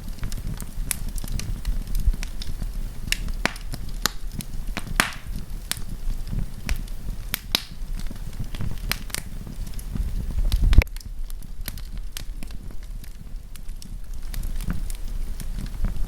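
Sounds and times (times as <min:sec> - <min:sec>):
campfire crackling and popping: 0:00.0 - 0:16.0
low rumble of burning fire: 0:00.0 - 0:16.0.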